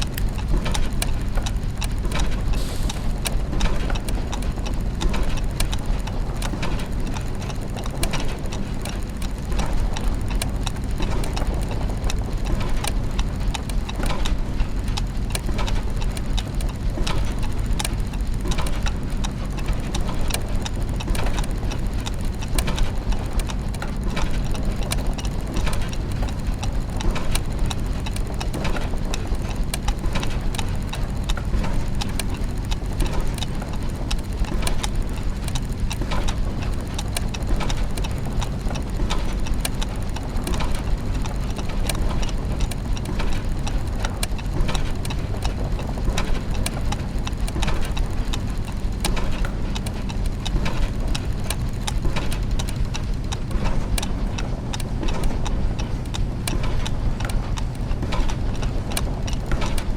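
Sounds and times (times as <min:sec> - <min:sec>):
clockwork ticking and clicking: 0:00.0 - 0:59.9
low mechanical hum: 0:00.0 - 0:59.9.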